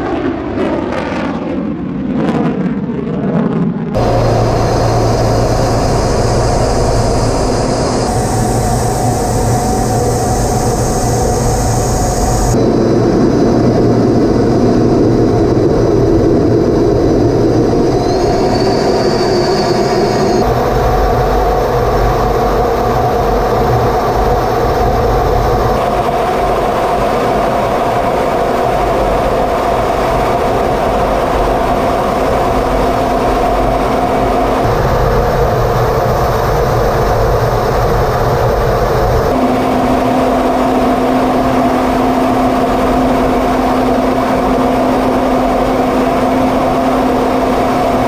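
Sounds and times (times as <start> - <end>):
jet engines and air rushing: 4.0 - 48.0.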